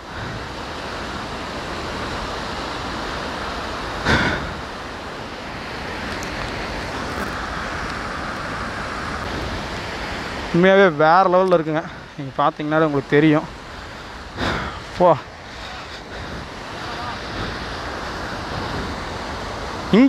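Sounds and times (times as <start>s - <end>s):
water rushing over weir: 0.0s - 20.0s.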